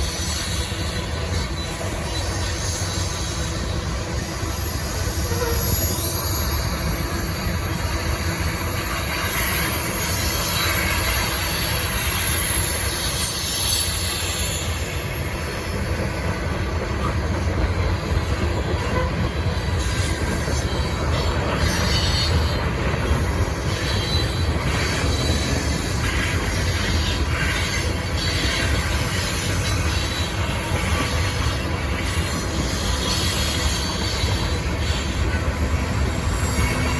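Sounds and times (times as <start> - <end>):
high wheel squeal: 0.0 - 36.9
train wheels rumbling on rail: 0.0 - 36.9.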